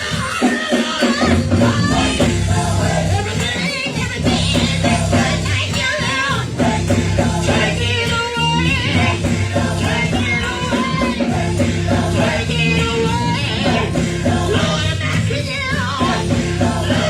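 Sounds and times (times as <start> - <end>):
gospel choir and band: 0.0 - 17.0
guitar: 0.0 - 17.0
lead singer: 0.0 - 17.0
bass line: 1.2 - 17.0.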